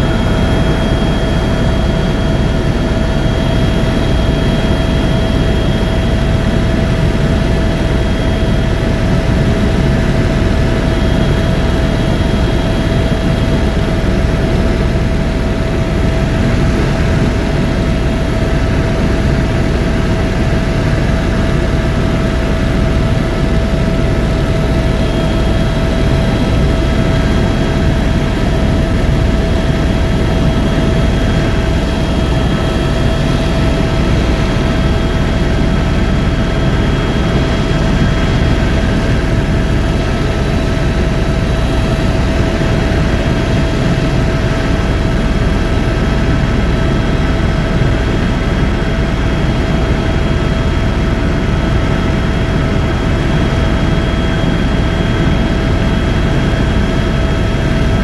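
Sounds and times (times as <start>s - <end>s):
constant whine: 0.0s - 58.0s
helicopter engine and rotor drone: 0.0s - 58.0s.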